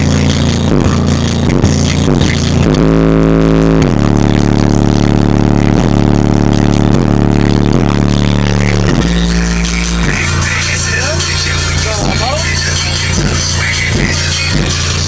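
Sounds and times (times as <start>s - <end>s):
deep bass notes from subwoofers: 0.0s - 15.0s.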